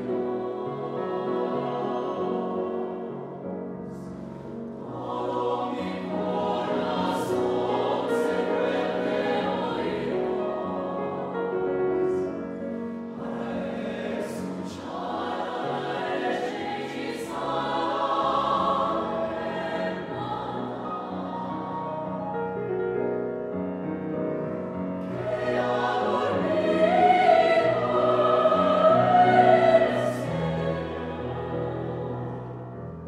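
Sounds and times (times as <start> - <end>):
mixed choir singing: 0.0 - 22.5, 25.0 - 32.8
piano accompaniment: 0.0 - 33.0.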